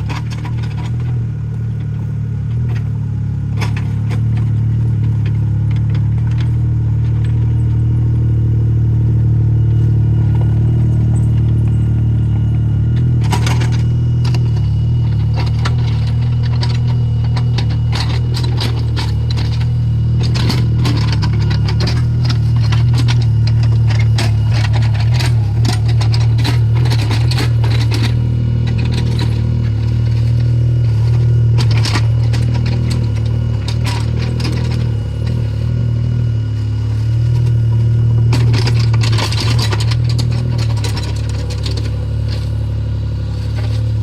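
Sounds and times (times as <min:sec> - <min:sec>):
excavator engine running: 0:00.0 - 0:44.0
scraping and clattering of earth and stone: 0:00.0 - 0:44.0.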